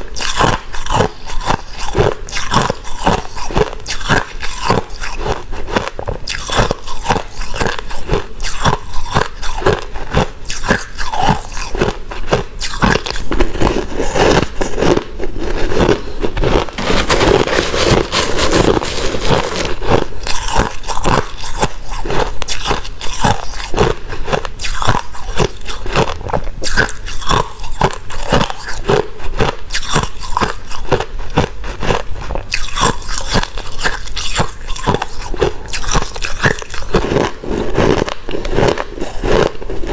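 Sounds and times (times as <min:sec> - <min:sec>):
person chewing crunchy ice: 0:00.0 - 0:39.9.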